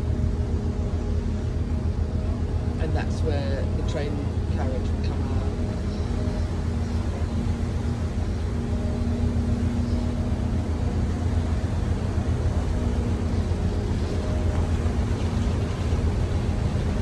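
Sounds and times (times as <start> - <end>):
faint hum: 0.0 - 17.0
ship engines rumbling: 0.0 - 17.0.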